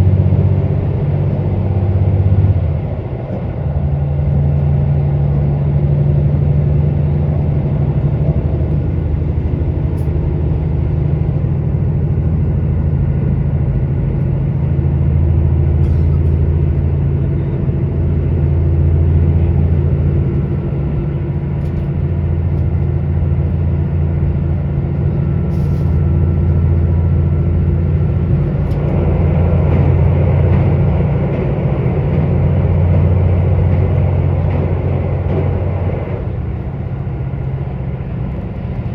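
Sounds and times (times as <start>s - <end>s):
diesel engine low drone: 0.0s - 38.9s
train rolling noise: 0.0s - 38.9s.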